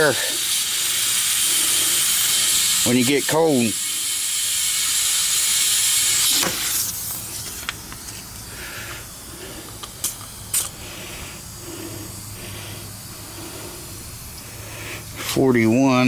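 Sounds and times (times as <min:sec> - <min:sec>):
short spurts of air: 0:00.0 - 0:03.0, 0:03.8 - 0:15.4
compressed air hissing into tire: 0:00.0 - 0:16.0.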